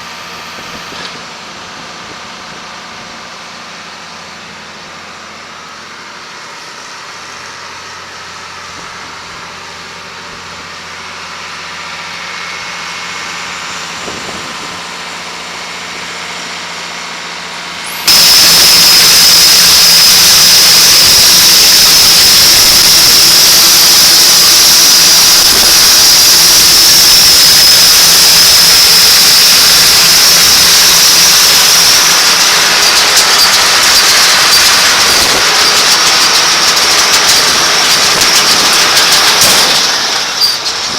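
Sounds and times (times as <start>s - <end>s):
farm machinery engine running: 0.0s - 40.9s
loud mechanical noise with whine: 0.0s - 40.9s.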